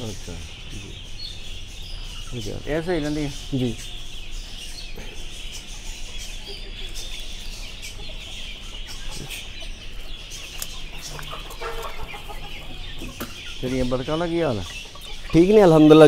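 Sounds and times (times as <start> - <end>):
chickens clucking and cheeping: 0.0 - 16.0.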